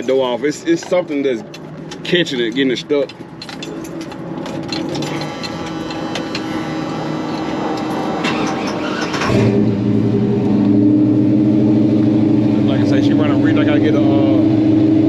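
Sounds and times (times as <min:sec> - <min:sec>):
pickup engine cranking and running: 0:00.0 - 0:15.0.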